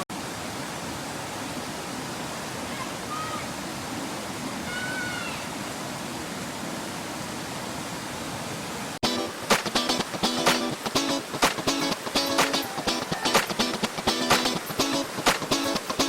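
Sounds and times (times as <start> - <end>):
stream rushing over rocks: 0.1 - 16.0.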